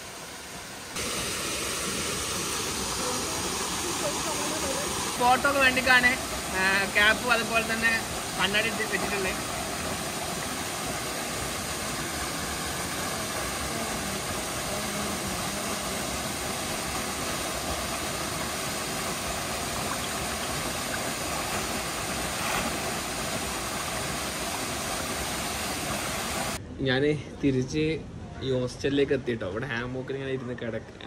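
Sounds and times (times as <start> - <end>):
small waterfall rushing: 0.0 - 26.6
swimmer splashing: 0.0 - 26.6.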